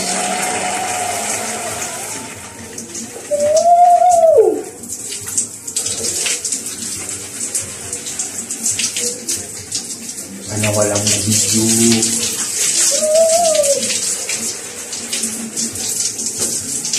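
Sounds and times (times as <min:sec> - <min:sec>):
shower spraying water: 0:00.0 - 0:16.9.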